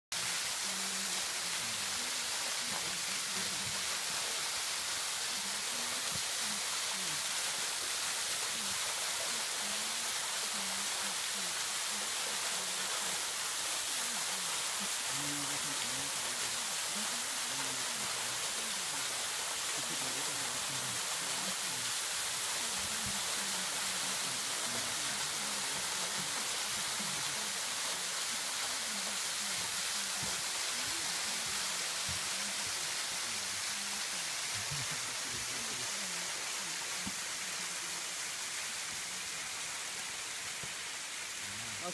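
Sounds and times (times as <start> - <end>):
waterfall rushing hiss: 0.1 - 41.9.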